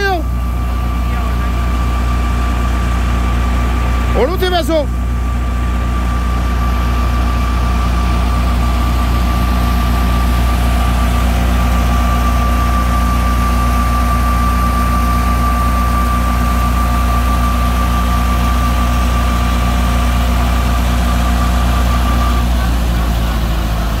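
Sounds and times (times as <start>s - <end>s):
thresher high whine: 0.0s - 24.0s
tractor diesel engine droning: 0.0s - 24.0s.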